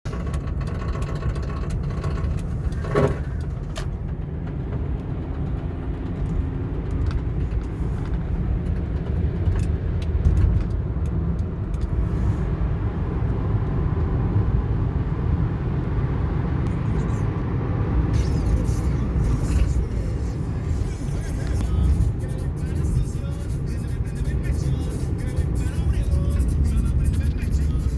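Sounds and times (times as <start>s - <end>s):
car making steady low noise: 0.1s - 27.9s.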